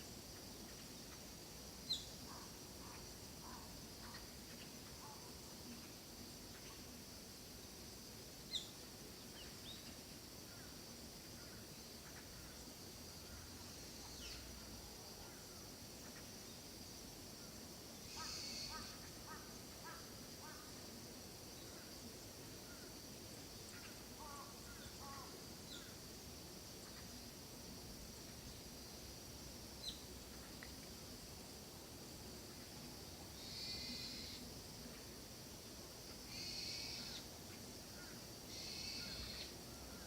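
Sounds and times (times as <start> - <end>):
steady high-pitched hiss: 0.0 - 40.0.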